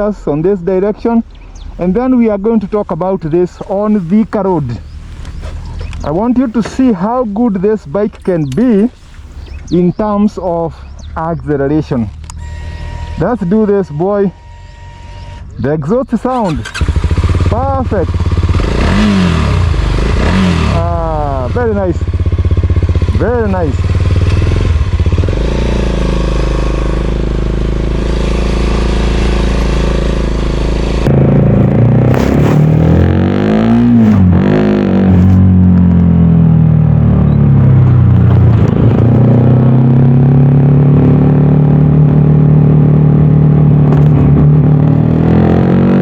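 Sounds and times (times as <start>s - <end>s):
motorcycle engine running: 0.0s - 14.8s, 16.6s - 46.0s
engine gear change: 0.0s - 15.6s, 16.2s - 46.0s.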